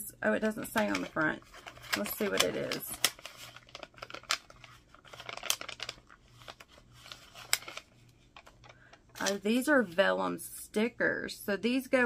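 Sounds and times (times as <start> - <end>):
sticker bag rustling and crinkling: 0.4 - 10.1.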